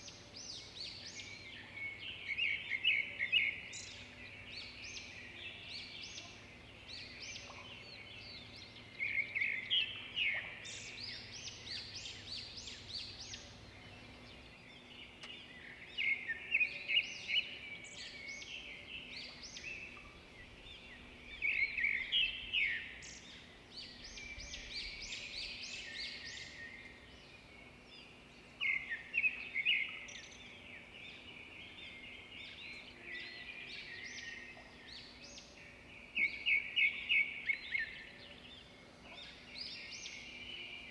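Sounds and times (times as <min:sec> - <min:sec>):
birds twittering: 0:00.0 - 0:40.9
faint steady hum: 0:00.0 - 0:40.9.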